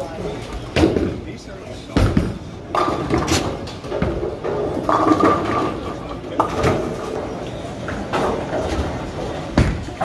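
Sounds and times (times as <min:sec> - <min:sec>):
bowling balls rolling: 0:01.9 - 0:10.0.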